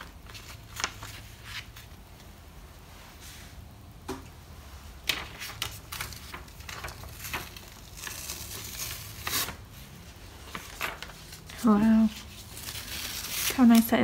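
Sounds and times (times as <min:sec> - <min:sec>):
paper stencil peeling rustles: 0:00.0 - 0:02.3, 0:05.0 - 0:14.0.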